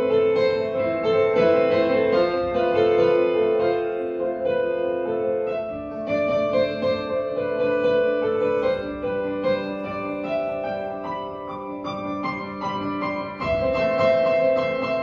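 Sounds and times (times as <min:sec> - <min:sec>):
digital piano chords: 0:00.0 - 0:15.0.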